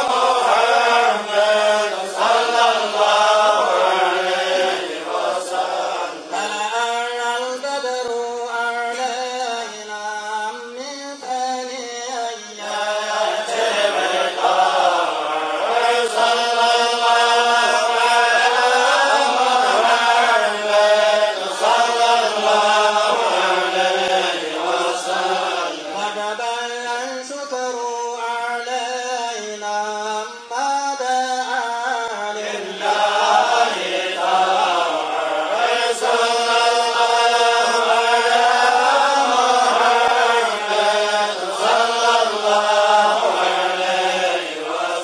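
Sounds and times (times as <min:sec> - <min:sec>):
men chanting in unison: 0:00.0 - 0:10.6, 0:11.2 - 0:27.4, 0:28.2 - 0:45.0.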